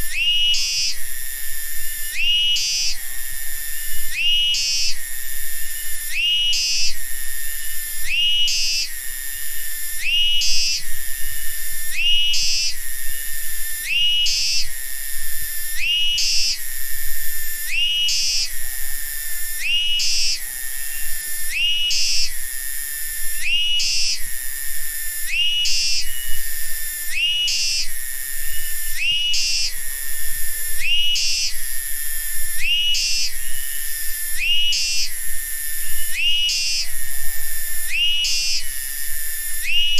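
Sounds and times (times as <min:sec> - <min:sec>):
cicadas droning: 0:00.0 - 0:39.9
rising whistle-like insect call: 0:00.0 - 0:39.9.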